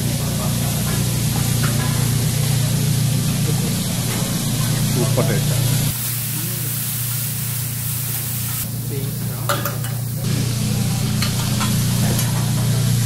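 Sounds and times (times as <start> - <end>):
food sizzling on a griddle: 0.1 - 13.0.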